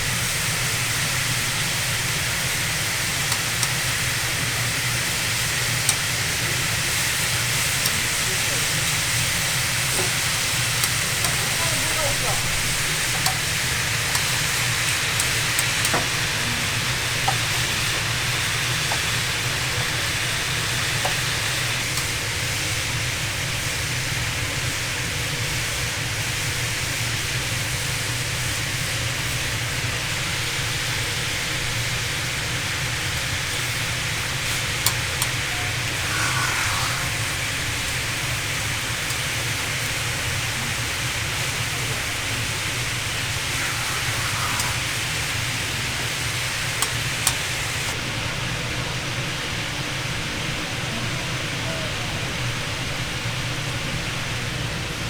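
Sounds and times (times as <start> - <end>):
patties sizzling: 0.0 - 48.2.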